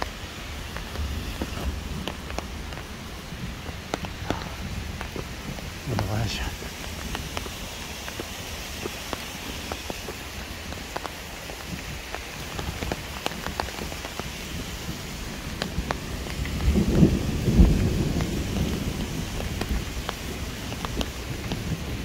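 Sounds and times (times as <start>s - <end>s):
rain hissing: 0.0s - 22.0s
raindrops ticking: 0.0s - 22.0s
thunder rumbling: 0.0s - 22.0s.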